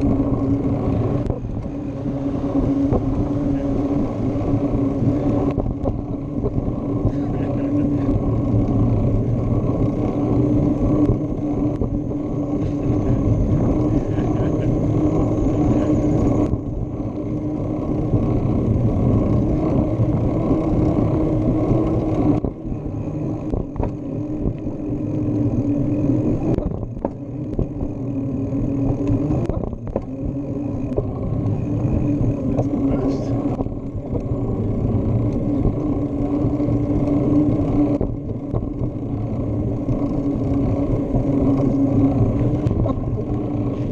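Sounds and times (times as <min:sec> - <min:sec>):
steady hum: 0:00.0 - 0:43.9
wind noise: 0:00.0 - 0:43.9.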